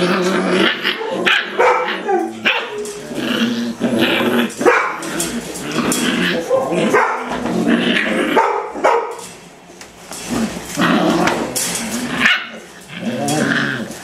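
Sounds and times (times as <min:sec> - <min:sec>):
puppies barking and yipping: 0:00.0 - 0:09.5, 0:10.2 - 0:13.0.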